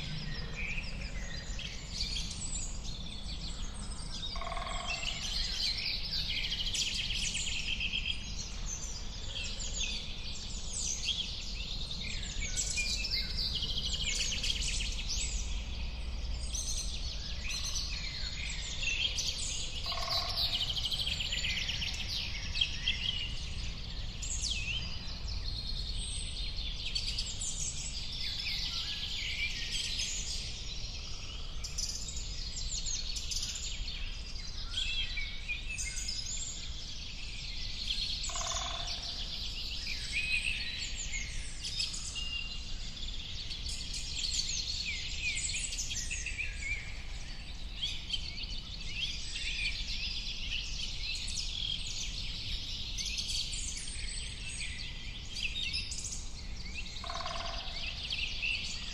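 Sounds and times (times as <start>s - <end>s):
birds chirping chorus: 0.0s - 58.9s.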